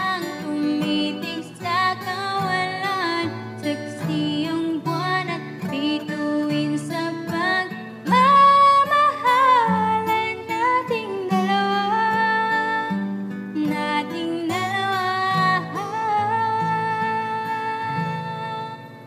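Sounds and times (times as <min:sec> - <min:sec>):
instrumental backing music: 0:00.0 - 0:19.0
woman singing a slow song: 0:00.0 - 0:19.0.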